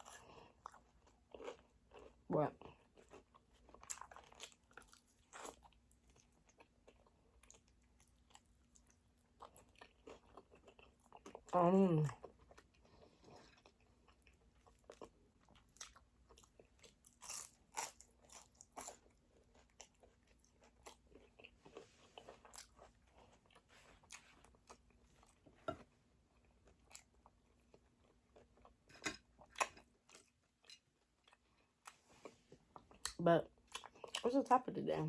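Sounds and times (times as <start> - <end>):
chewing crispy food: 0.0 - 34.6.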